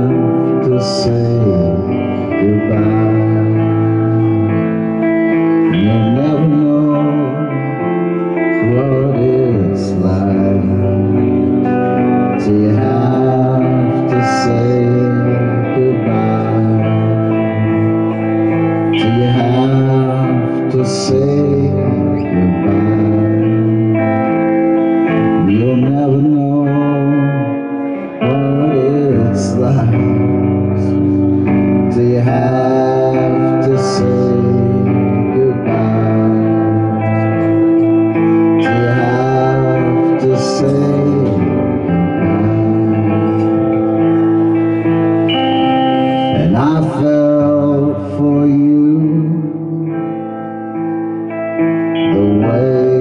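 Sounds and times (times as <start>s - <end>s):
electric guitar chords: 0.0s - 53.0s
man singing: 0.0s - 53.0s.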